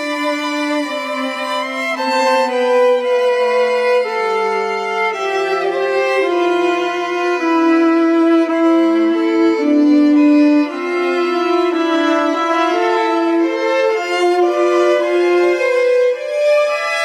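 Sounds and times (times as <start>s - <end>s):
chamber quintet playing: 0.0s - 17.0s.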